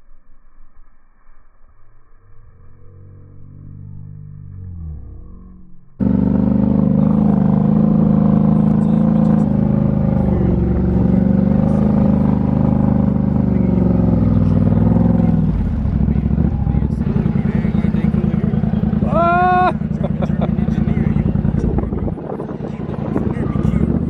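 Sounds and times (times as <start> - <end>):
engine running at high revs: 3.3 - 24.0.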